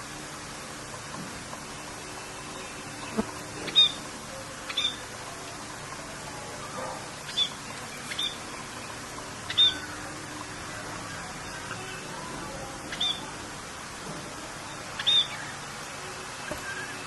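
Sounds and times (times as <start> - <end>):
steady rain hiss: 0.0 - 17.0
songbirds chirping: 0.8 - 17.0.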